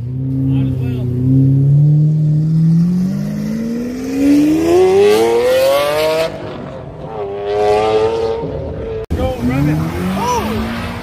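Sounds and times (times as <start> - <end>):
car engine revving hard: 0.0 - 8.6, 9.2 - 11.0.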